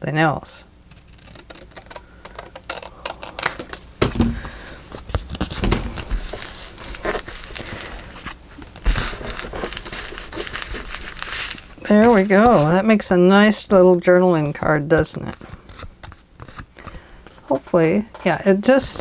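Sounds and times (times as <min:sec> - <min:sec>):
scissors snipping paper: 0:00.9 - 0:03.8, 0:04.4 - 0:16.9
paper rustling: 0:01.4 - 0:19.0.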